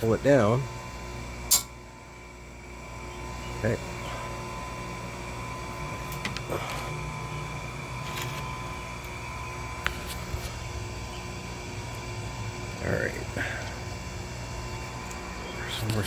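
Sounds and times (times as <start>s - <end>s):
steady electric hum: 0.0s - 16.0s.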